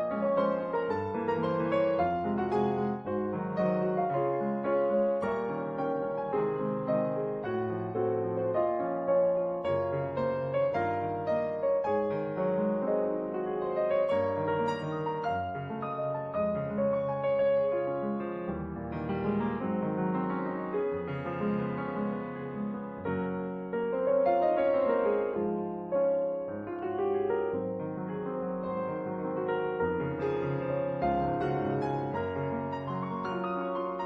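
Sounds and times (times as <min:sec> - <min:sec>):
solo piano music: 0:00.0 - 0:34.0.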